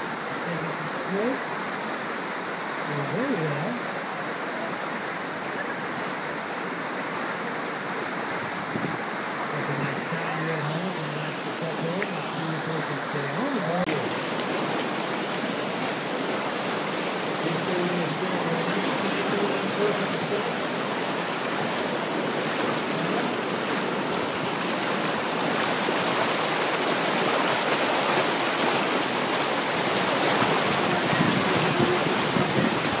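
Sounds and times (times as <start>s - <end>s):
river rapids rushing: 0.0s - 33.0s.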